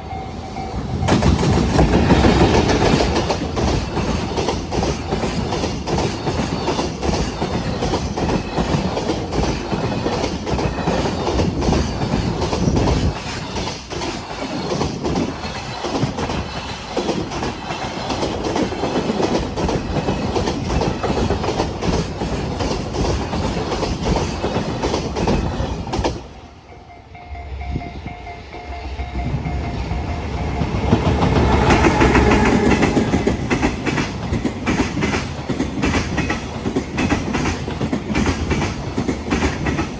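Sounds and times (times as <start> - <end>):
train wheels clattering over rail joints: 1.0 - 26.4, 30.4 - 39.9.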